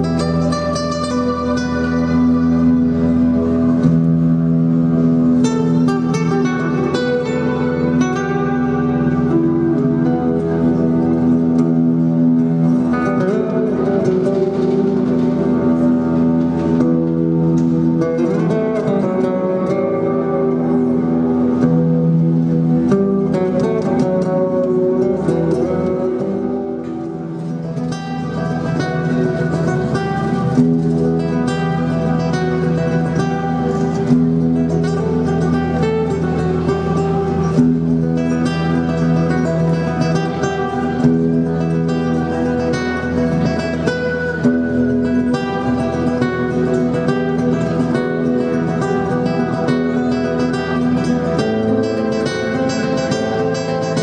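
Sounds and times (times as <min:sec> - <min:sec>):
classical guitar: 0:00.0 - 0:54.0.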